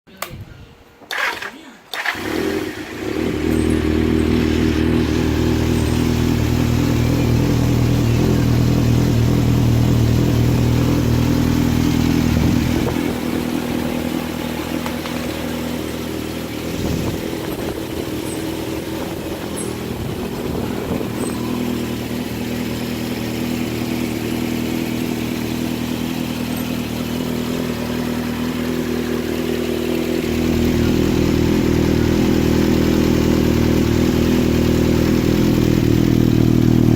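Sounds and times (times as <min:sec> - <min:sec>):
motorcycle engine idling: 0:02.0 - 0:36.9.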